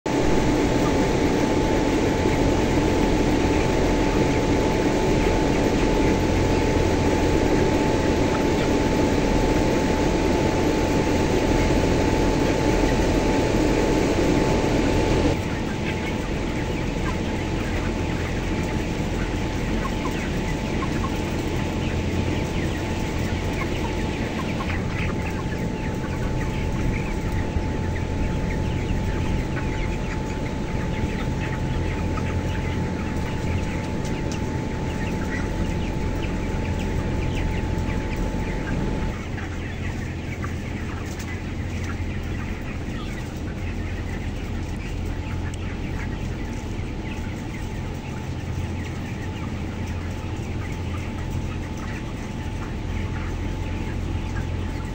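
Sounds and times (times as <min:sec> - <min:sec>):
chickens chirping and clucking: 0:00.1 - 0:54.9
ventilation fans humming: 0:00.1 - 0:54.9.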